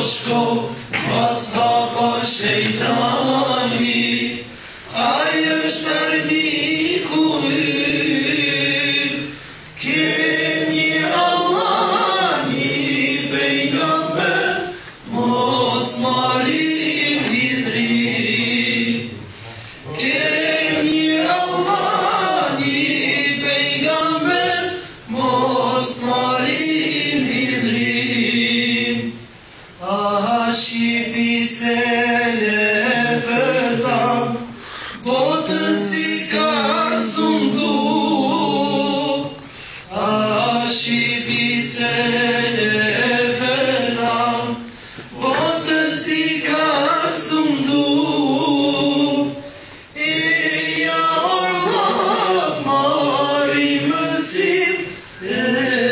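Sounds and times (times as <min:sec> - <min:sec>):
group singing unaccompanied: 0:00.0 - 0:55.9.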